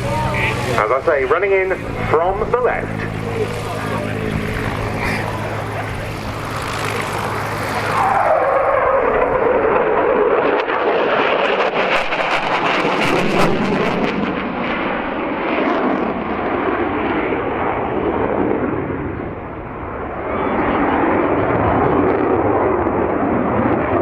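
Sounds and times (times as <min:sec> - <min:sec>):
propeller plane engines droning: 0:00.0 - 0:24.0.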